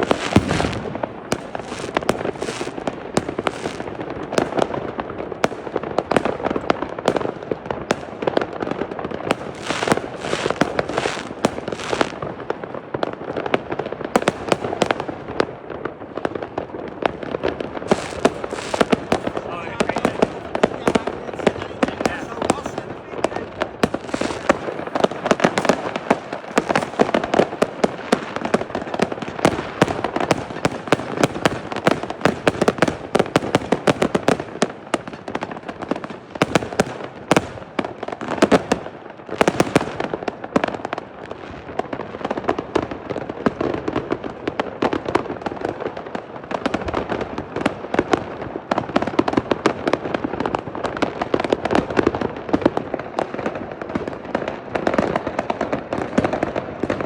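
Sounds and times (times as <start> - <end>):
fireworks and firecrackers crackling: 0.0 - 57.0.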